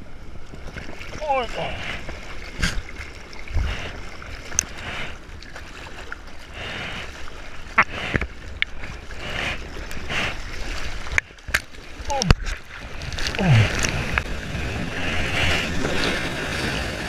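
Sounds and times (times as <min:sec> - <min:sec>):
water lapping and sloshing: 0:00.0 - 0:17.0.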